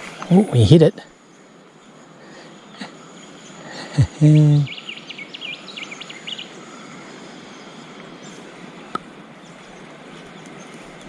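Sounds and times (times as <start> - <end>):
river water flowing: 0.0 - 4.0, 4.7 - 11.0
bird chirping rapidly: 0.0 - 10.9.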